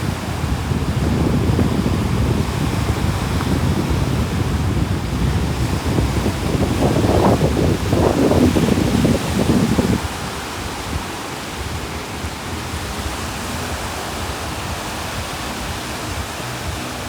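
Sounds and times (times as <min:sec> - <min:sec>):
sea waves washing onto shore: 0:00.0 - 0:17.0
wind rumbling on microphone: 0:00.0 - 0:17.0.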